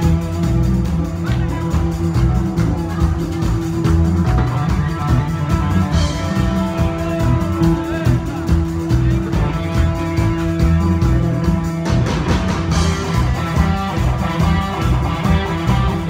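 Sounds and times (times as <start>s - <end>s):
drums: 0.0s - 16.0s
electric bass: 0.0s - 16.0s
live band playing pop song: 0.0s - 16.0s.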